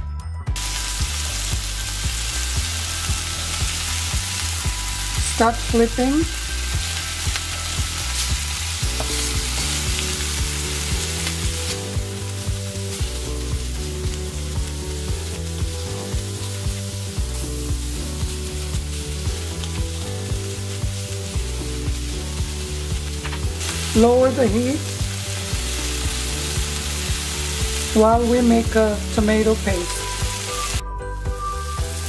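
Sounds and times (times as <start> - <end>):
soft background music: 0.0 - 32.0
fish sizzling in oil: 0.6 - 32.0.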